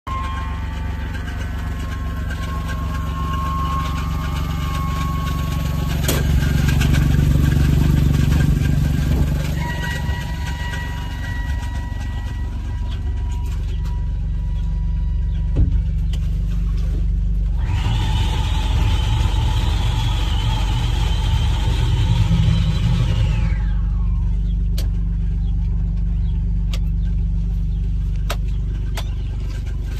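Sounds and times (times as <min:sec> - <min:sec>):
vehicle engine idling: 0:00.1 - 0:29.9.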